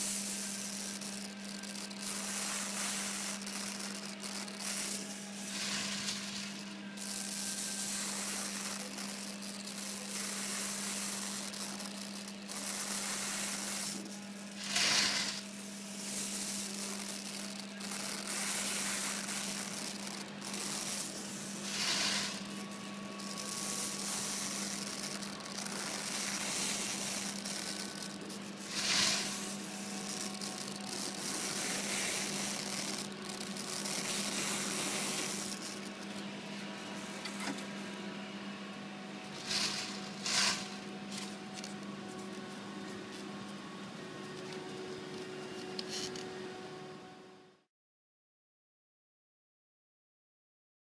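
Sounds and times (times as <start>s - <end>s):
torch hissing: 0.0s - 37.9s, 39.1s - 42.9s
steady low hum: 0.0s - 47.6s.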